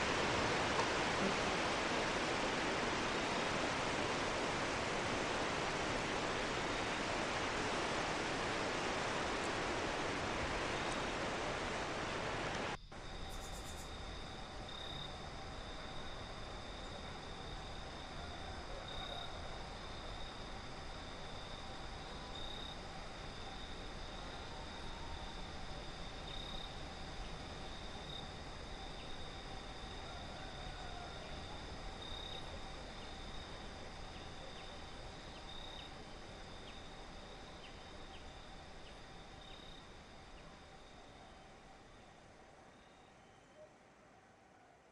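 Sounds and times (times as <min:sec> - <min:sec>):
high insect trill: 0:00.0 - 0:18.5, 0:19.2 - 0:42.0
faint low ambient noise: 0:00.0 - 0:44.9.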